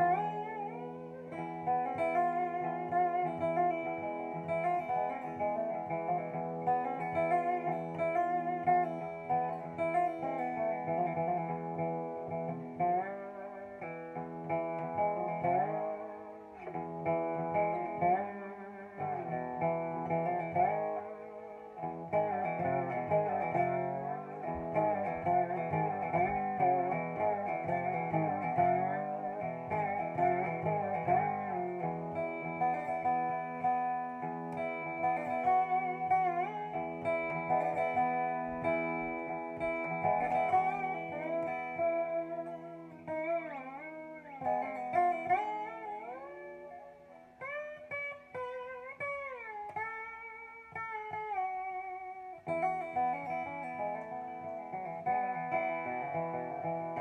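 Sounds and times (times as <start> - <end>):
resonator guitar played with slide: 0.0 - 57.0.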